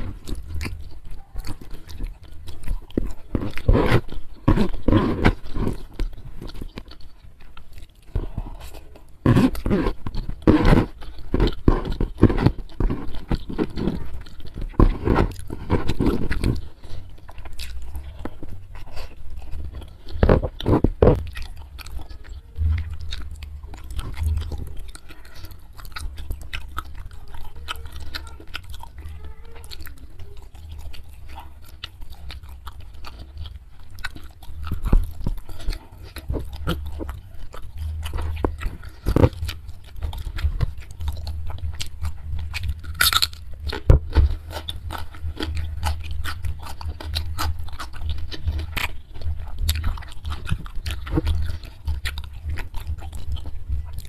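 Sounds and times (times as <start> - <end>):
clicks and crackles: 0.0 - 53.8
chewing and crunching: 0.0 - 54.0
steady low hum: 0.0 - 54.0.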